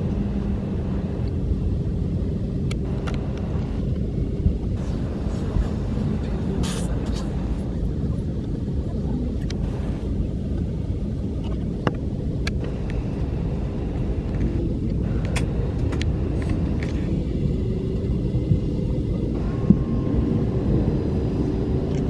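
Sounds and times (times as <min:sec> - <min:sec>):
low rumble inside aircraft cabin: 0:00.0 - 0:22.0.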